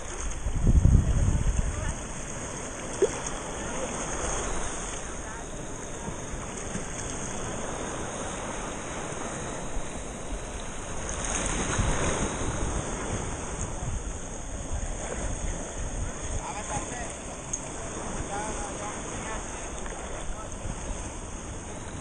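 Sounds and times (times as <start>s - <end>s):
small waves lapping on rocks: 0.0s - 22.0s
wind on microphone: 0.0s - 22.0s.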